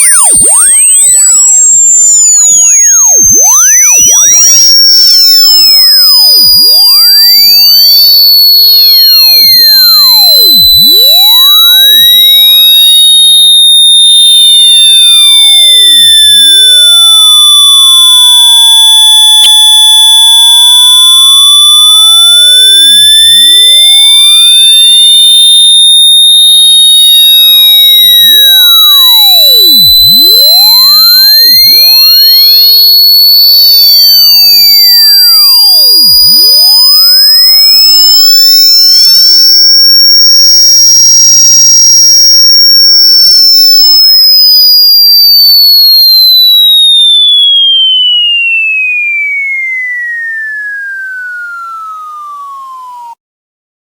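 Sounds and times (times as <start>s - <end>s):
loud high-pitched electronic tone: 0.0s - 53.2s.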